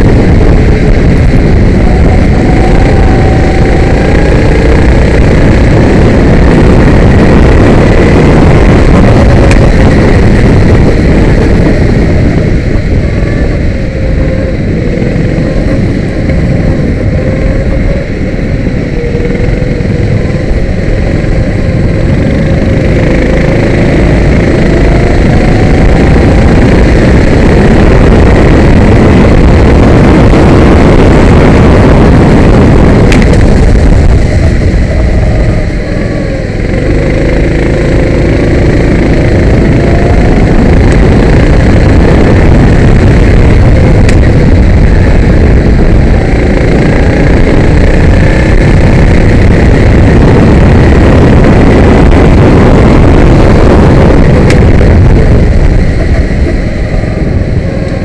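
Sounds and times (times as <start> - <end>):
kart engine running hard: 0.0 - 58.0
wind and road noise: 0.0 - 58.0.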